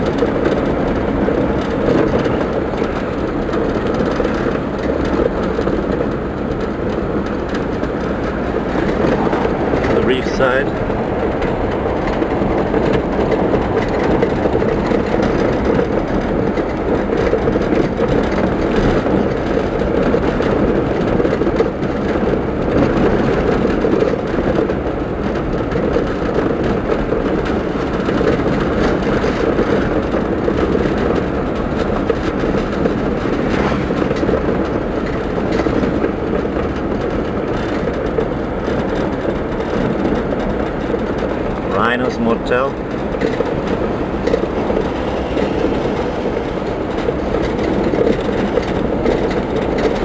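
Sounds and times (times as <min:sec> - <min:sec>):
car road and engine noise: 0:00.0 - 0:50.0
tyres on asphalt: 0:00.0 - 0:50.0.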